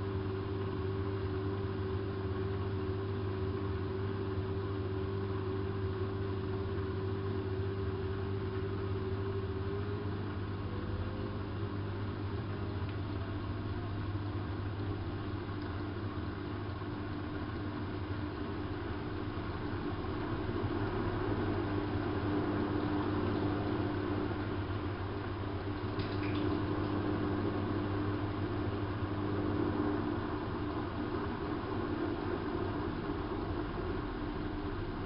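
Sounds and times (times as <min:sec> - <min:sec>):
washing machine humming: 0:00.0 - 0:35.0.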